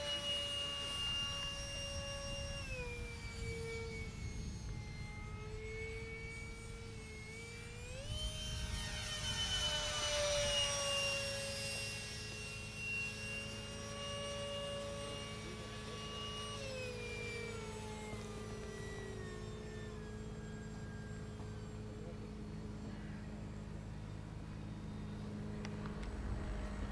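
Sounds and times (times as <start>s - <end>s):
electric ducted fan whining: 0.0s - 26.9s.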